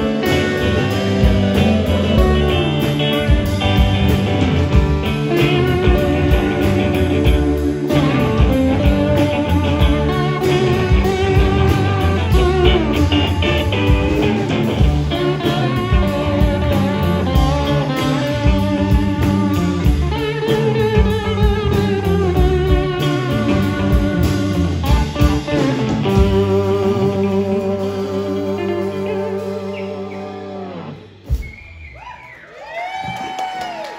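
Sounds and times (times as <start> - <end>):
electric guitar rock lead: 0.0 - 31.7.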